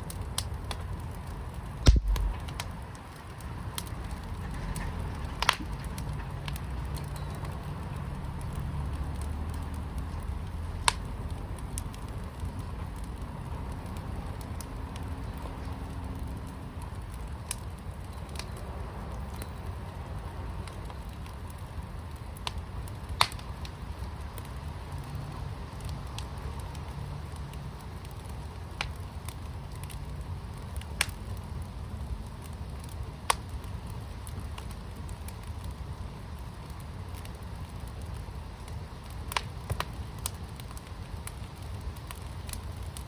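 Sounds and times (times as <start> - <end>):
fire crackling and popping: 0.0 - 43.0
fire low rumble: 0.0 - 43.0.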